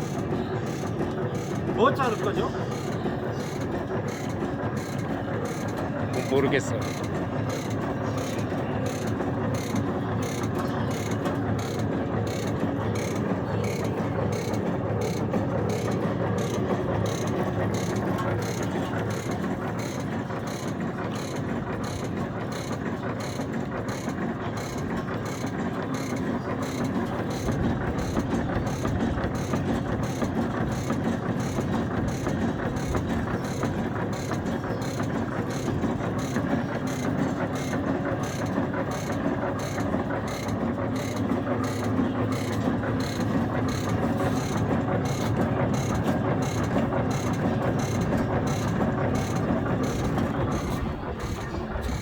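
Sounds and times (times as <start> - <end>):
continuous machine noise: 0.0 - 52.0
food-cutting machine clacking: 0.0 - 52.0.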